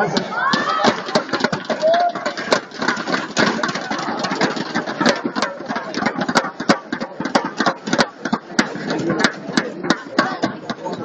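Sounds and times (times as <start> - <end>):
crowd din: 0.0 - 11.0
sharp claps or knocks: 0.2 - 11.0.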